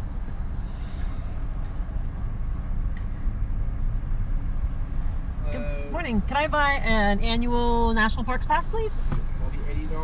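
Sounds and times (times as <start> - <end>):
car rumble from inside cabin: 0.0 - 10.0.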